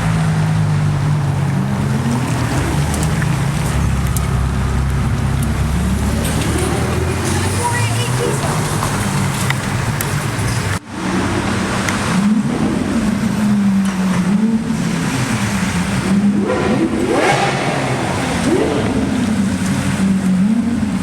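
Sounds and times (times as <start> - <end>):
sports car engine revving: 0.0 - 21.0.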